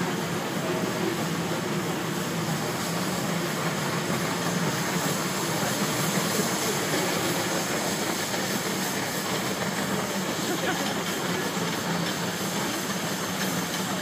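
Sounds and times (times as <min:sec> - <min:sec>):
train rolling on track: 0:00.0 - 0:14.0.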